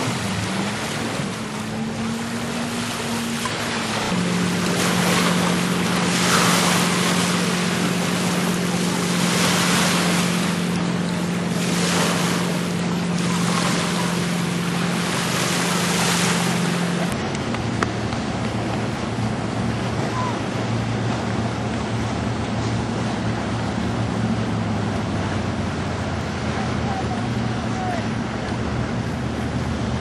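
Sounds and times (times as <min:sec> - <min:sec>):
boat engine hum: 0:00.0 - 0:30.0
water washing against hull: 0:00.0 - 0:30.0.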